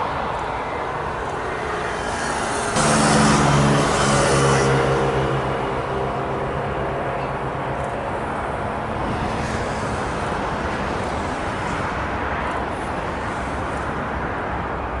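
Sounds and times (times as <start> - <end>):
jet engines roaring at take-off: 0.0 - 15.0.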